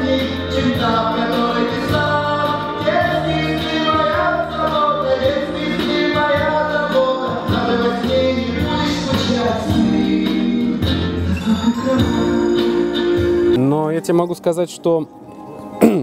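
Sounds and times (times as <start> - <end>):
band with bass and percussion: 0.0 - 13.8
person singing: 0.0 - 13.8.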